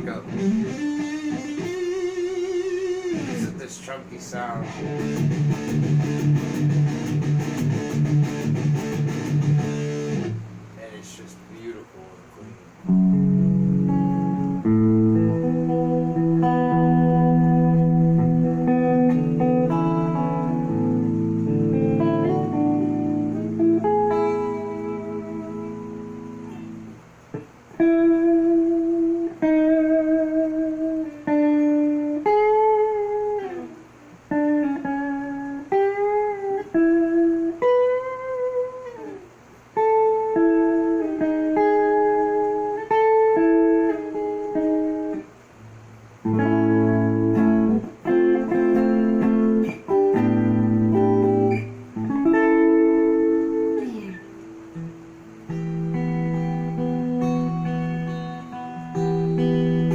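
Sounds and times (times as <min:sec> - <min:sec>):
electric guitar playing: 0:00.0 - 0:11.0, 0:12.8 - 0:59.9.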